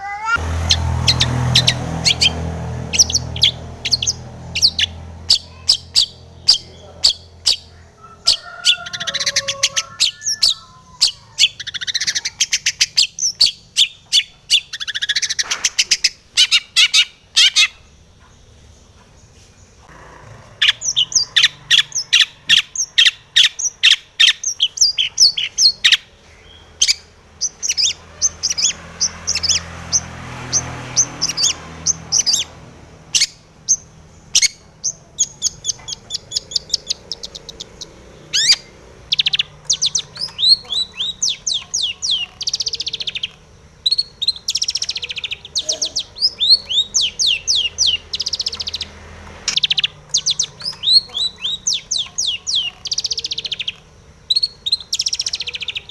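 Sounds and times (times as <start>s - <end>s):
bird singing sharp chattering notes: 0.2s - 8.4s, 9.0s - 18.6s, 20.6s - 32.5s, 33.2s - 55.9s.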